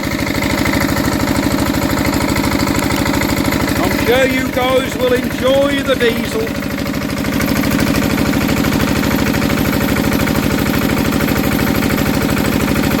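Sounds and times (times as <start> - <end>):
stationary diesel engine running: 0.0 - 13.0.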